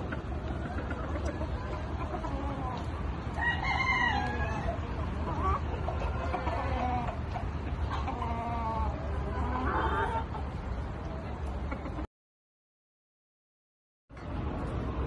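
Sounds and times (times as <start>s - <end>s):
chickens clucking: 0.0s - 12.1s.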